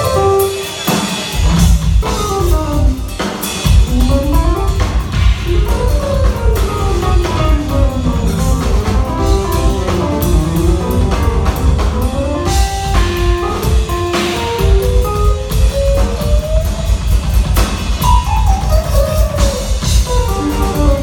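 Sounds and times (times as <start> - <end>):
drum kit: 0.0 - 21.0
jazz-rock fusion band playing: 0.0 - 21.0.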